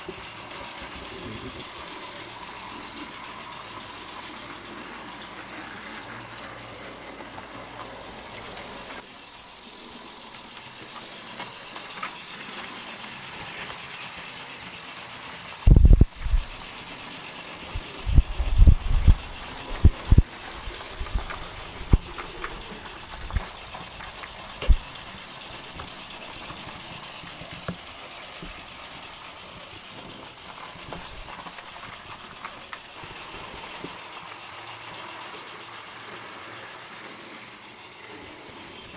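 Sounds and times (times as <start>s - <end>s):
model train motor whirring: 0.0s - 38.9s
wheels rattling on rails: 0.0s - 38.9s.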